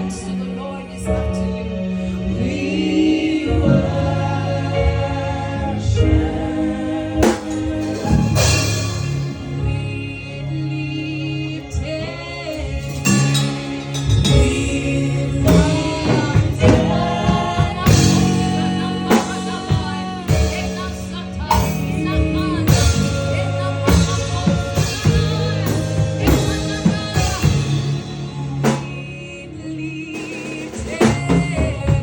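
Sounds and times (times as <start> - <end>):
band with bass and drums: 0.0 - 32.0
voices singing: 0.0 - 32.0.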